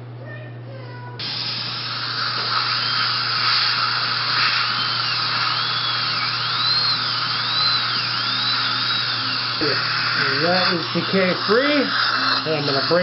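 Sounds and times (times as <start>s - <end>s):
dental drill whine: 1.2s - 13.0s
steady hiss: 1.2s - 13.0s.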